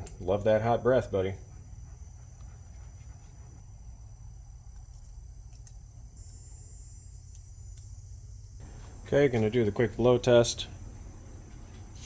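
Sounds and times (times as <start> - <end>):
crickets chirping: 0.0 - 12.0
low steady hum: 0.0 - 12.0.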